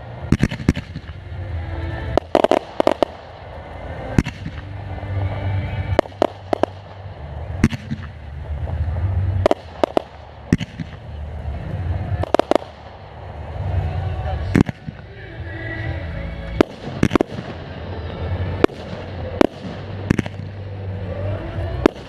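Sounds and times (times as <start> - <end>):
low rumble: 0.0 - 22.0
fireworks bangs: 0.1 - 15.2, 16.6 - 22.0.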